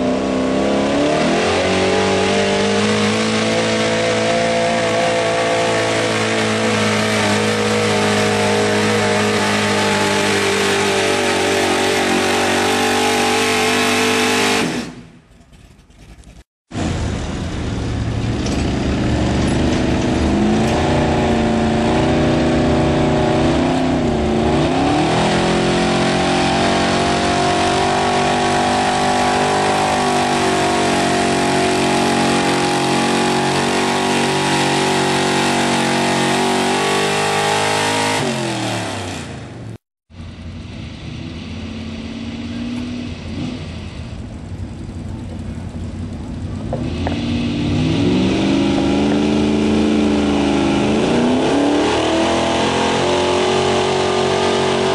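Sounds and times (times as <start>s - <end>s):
truck engine running hard: 0.0s - 15.0s, 16.1s - 54.9s
truck engine revving: 0.0s - 54.9s.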